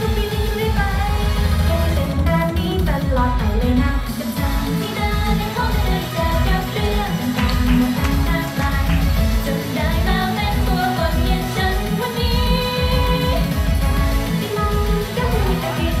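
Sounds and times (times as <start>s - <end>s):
pop backing track with beat: 0.0s - 16.0s
woman singing into microphone: 0.0s - 16.0s.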